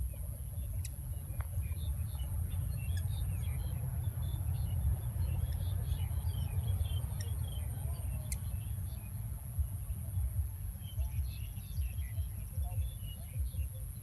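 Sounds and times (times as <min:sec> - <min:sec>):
bird chirps: 0:00.0 - 0:14.0
low uneven rumble: 0:00.0 - 0:14.0
steady high-pitched whine: 0:00.0 - 0:14.0.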